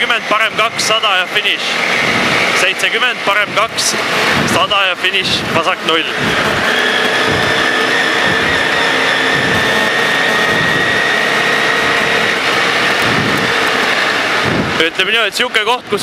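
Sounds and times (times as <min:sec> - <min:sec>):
rally car engine at high revs: 0:00.0 - 0:15.2.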